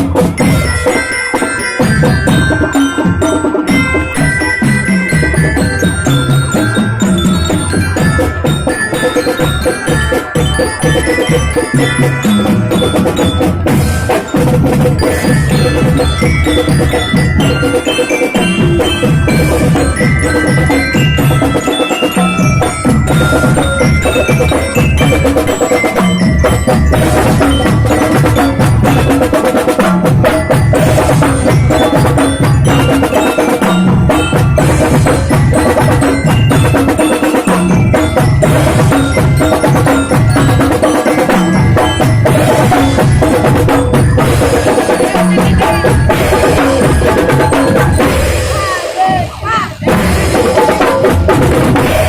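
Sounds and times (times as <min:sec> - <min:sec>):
mallet percussion melody: 0:00.0 - 0:52.0
marching drums beat: 0:00.0 - 0:52.0.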